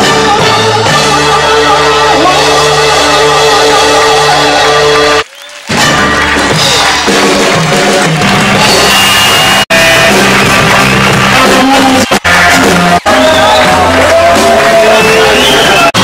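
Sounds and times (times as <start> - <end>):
live band music with singing: 0.0 - 16.0.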